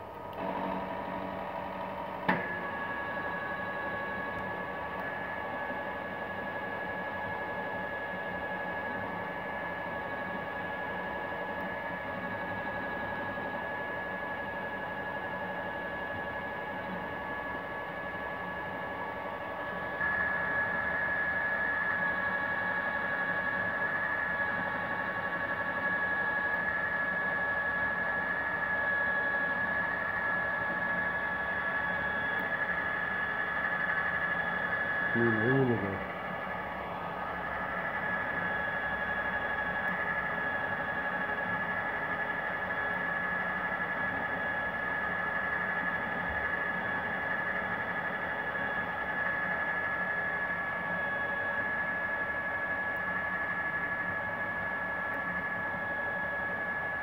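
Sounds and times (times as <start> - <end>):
machine humming and whining: 0.0 - 57.0.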